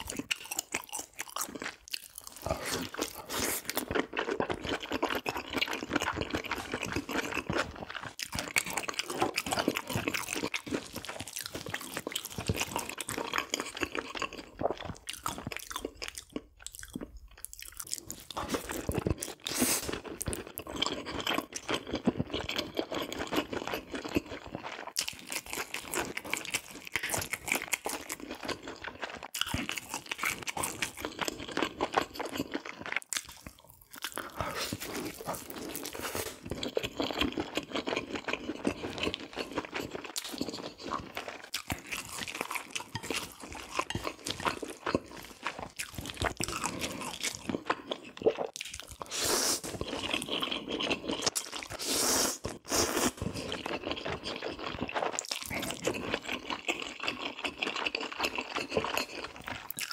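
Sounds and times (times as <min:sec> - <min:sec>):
crunchy bites and chewing: 0:00.0 - 0:59.9.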